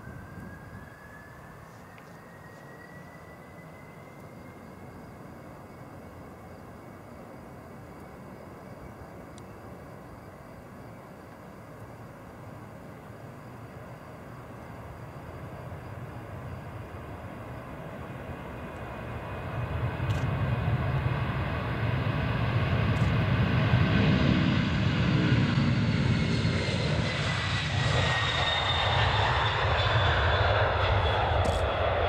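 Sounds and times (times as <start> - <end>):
jet engines at take-off power: 0.0 - 32.0.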